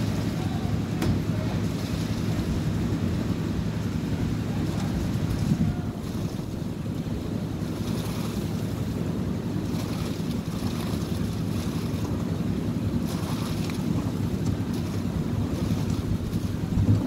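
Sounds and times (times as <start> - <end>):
concrete mixer engine running: 0.0 - 17.0
wind buffeting microphone: 0.0 - 17.0.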